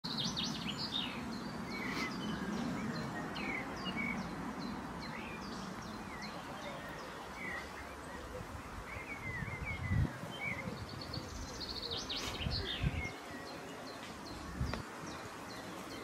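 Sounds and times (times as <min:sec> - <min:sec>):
songbirds chirping: 0:00.0 - 0:16.0
background hiss: 0:00.1 - 0:16.0.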